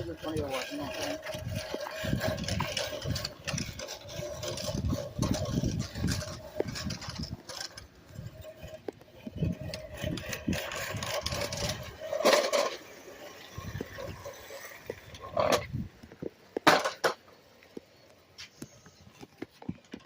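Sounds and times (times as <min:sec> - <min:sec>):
low rumbling and rubbing: 0:00.0 - 0:16.4.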